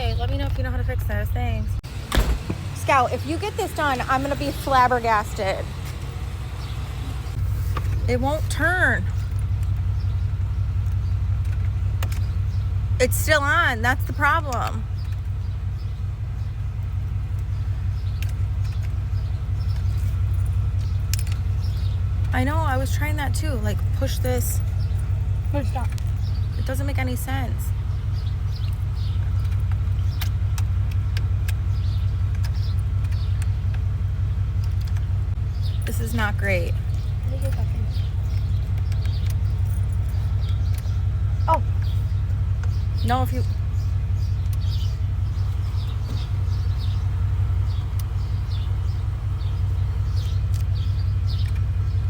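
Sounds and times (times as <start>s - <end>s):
truck engine idling: 0.0s - 52.0s.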